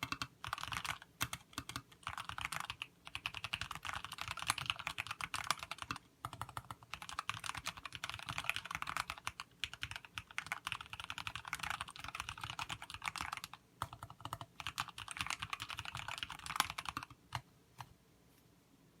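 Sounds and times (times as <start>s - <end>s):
mechanical keyboard typing: 0.0s - 17.9s.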